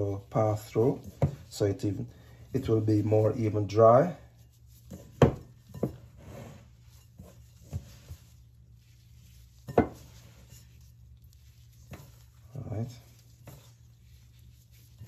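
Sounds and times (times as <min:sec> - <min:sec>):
crumbs rustling: 0:00.0 - 0:15.0.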